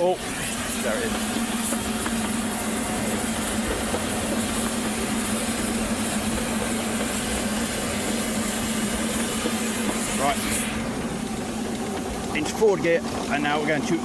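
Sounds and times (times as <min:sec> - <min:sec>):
miniature steam locomotive running: 0:00.0 - 0:14.0.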